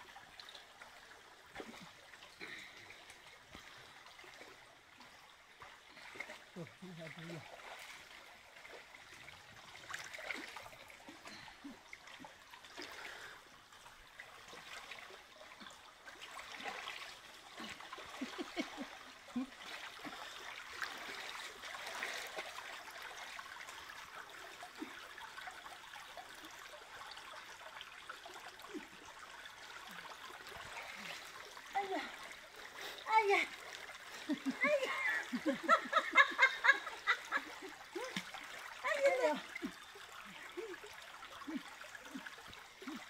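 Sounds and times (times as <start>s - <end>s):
splashing of people wading: 0.0s - 43.0s
stream water trickling: 0.0s - 43.0s.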